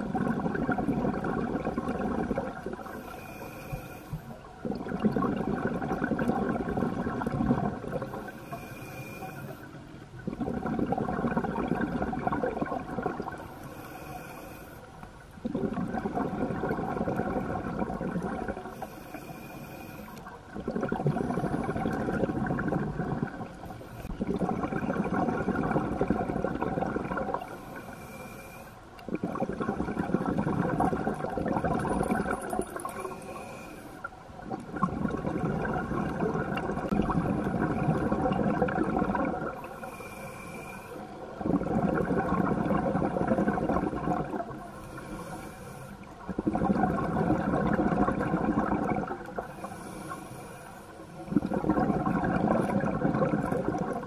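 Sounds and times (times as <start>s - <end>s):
exhaled bubbles rushing: 0.0s - 3.1s, 4.6s - 8.6s, 10.2s - 13.6s, 15.4s - 18.9s, 20.1s - 27.9s, 29.0s - 40.0s, 41.2s - 45.2s, 46.0s - 50.1s, 51.2s - 54.0s.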